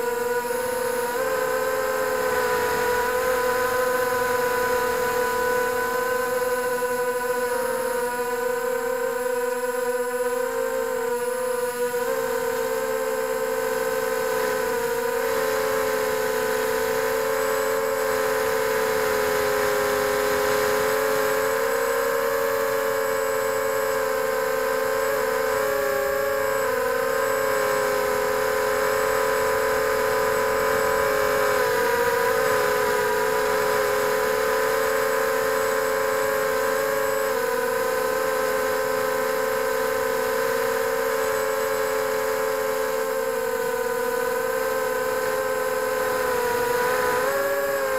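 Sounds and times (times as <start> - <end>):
drone motors buzzing whine: 0.0 - 47.9.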